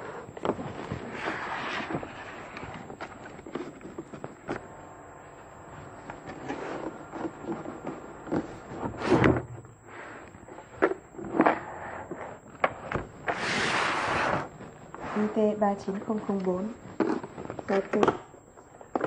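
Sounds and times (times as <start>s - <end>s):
cardboard scraping: 0.4s - 4.8s, 5.8s - 12.4s, 13.0s - 17.8s.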